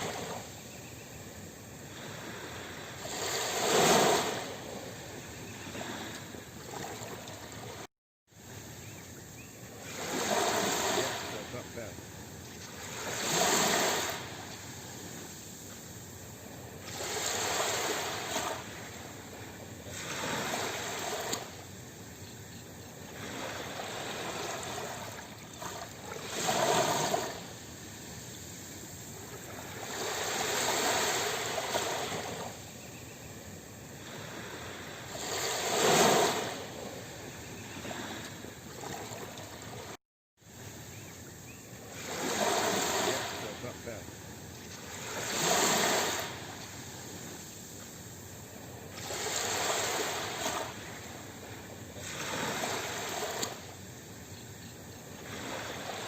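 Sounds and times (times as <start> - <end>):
sea waves breaking on shore: 0.0 - 8.8, 9.6 - 41.0, 41.7 - 56.0.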